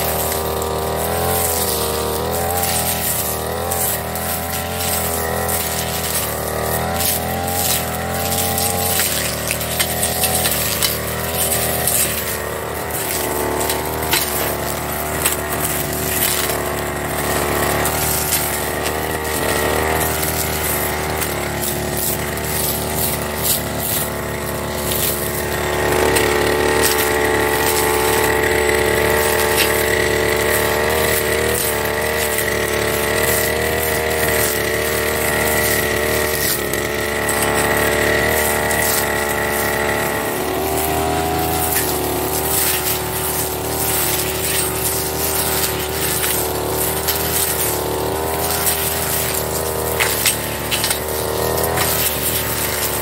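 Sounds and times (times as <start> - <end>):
brush cutter engine running: 0.0 - 53.0
sharp ticks of stems struck: 0.0 - 53.0.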